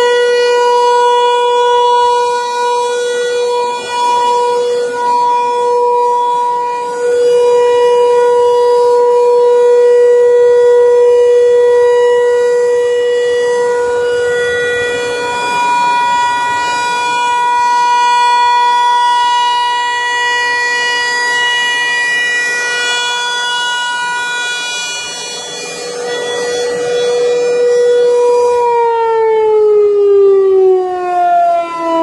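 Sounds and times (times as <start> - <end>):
rotating warning siren: 0.0 - 32.0.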